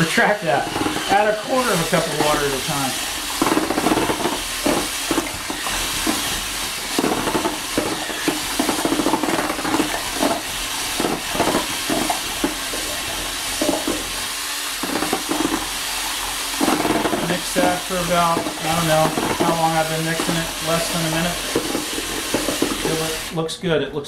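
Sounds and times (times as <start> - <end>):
drill whirring: 0.0 - 23.4
paddle knocking bucket: 0.0 - 23.4
wet churning: 0.0 - 23.4.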